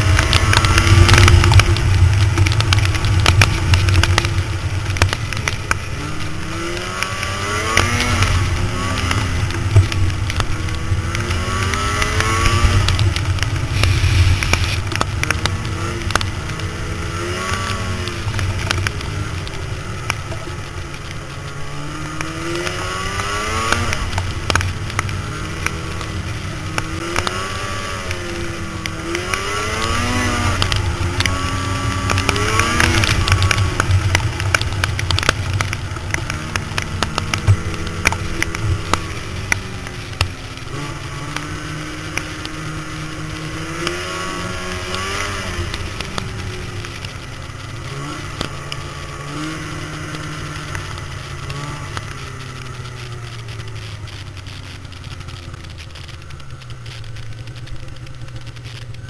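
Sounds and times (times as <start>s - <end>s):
snow and ice ticking on machine: 0.0s - 59.0s
snowmobile engine running: 0.0s - 59.0s.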